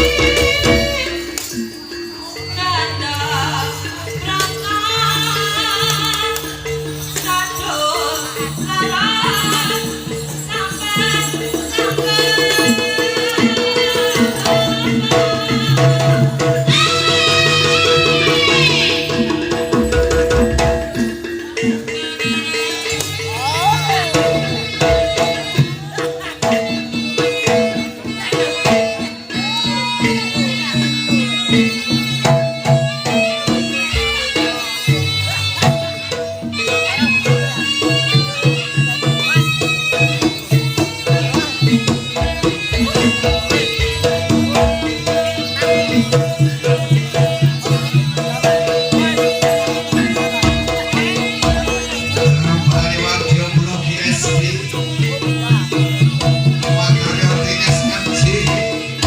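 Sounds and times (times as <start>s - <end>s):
hand drums beating: 0.0s - 2.2s, 3.0s - 59.0s
sustained gamelan tones: 0.0s - 59.0s.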